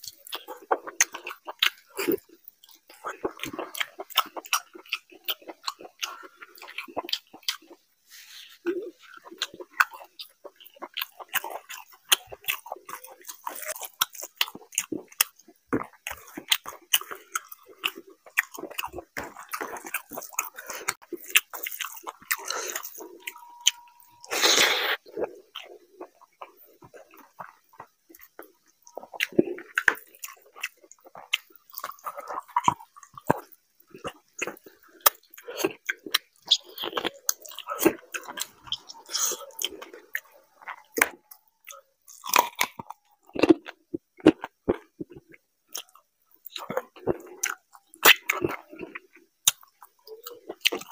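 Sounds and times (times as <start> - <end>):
chewing and wet mouth sounds: 0.0 - 50.9.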